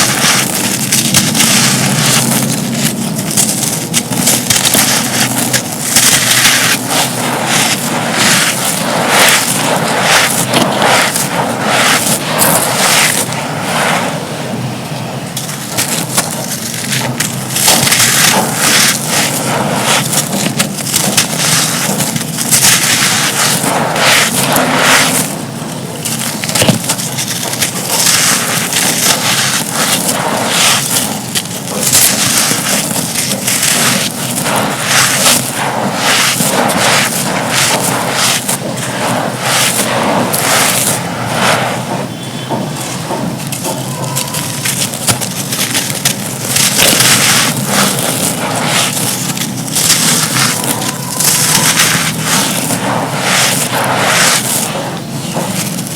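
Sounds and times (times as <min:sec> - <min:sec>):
hands crumbling dry powder: 0:00.0 - 0:14.2, 0:15.3 - 0:55.9.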